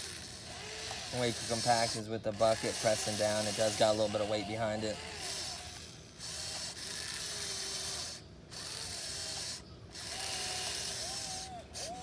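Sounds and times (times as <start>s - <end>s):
small electric motors whining: 0.0s - 12.0s.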